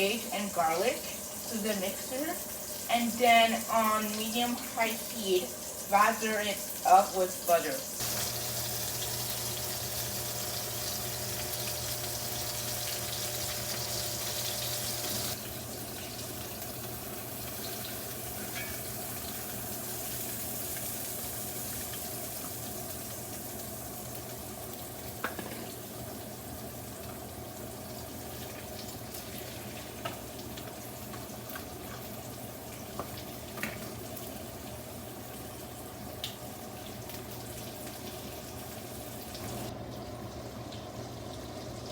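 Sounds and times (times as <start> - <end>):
meat sizzling in a skillet: 0.0 - 41.9.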